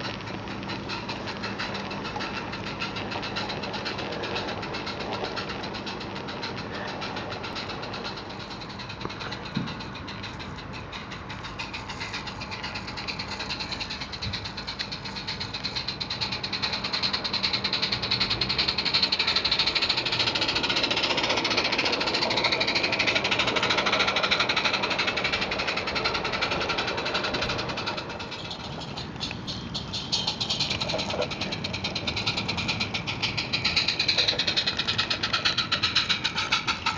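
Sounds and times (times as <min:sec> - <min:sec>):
model train clattering past: 0:00.0 - 0:36.9.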